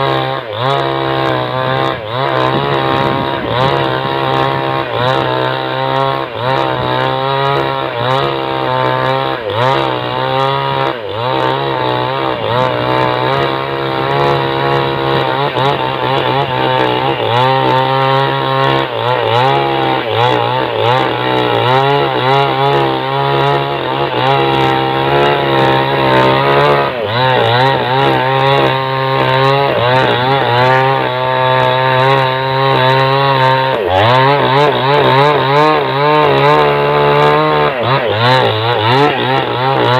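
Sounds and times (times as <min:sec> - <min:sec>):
chainsaw cutting into a log: 0:00.0 - 0:39.9.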